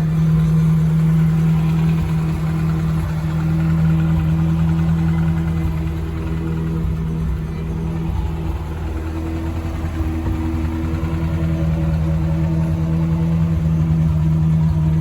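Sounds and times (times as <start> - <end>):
pickup engine running: 0.0 - 15.0.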